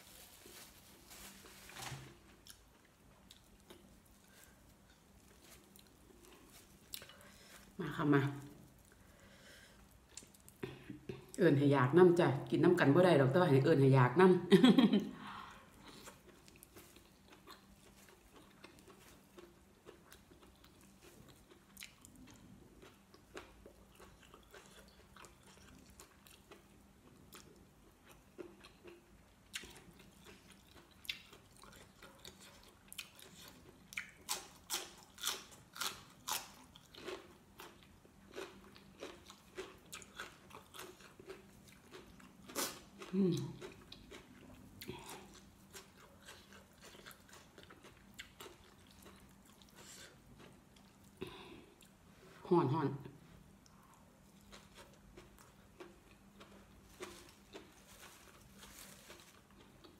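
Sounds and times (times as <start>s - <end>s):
chewing and crunching: 2.2s - 11.4s, 15.4s - 52.3s, 53.6s - 59.9s.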